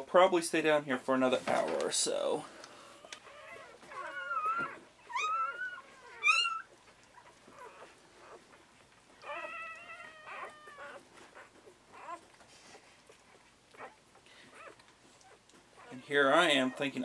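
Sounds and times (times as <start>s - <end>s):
puppies squeaking and crying: 2.8s - 17.0s.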